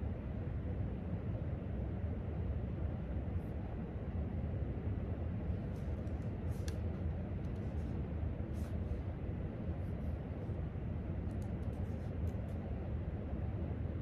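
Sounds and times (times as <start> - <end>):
ventilation hum: 0.0 - 14.0.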